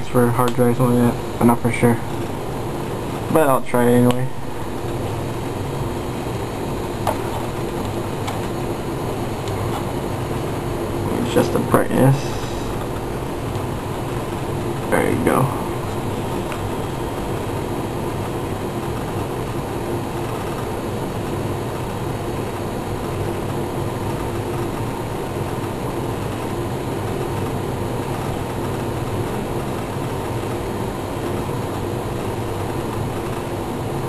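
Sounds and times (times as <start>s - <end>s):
mechanical hum and whir: 0.0s - 34.0s.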